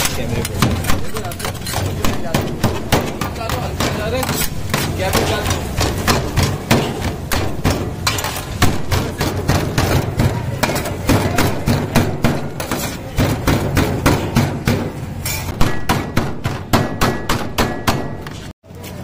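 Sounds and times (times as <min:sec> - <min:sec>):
blade chopping on steel tray: 0:00.0 - 0:18.4.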